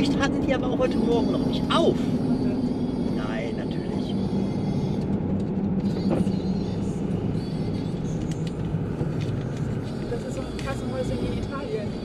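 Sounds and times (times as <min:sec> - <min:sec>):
tyre and road noise: 0:00.0 - 0:12.0
van engine hum: 0:00.0 - 0:12.0.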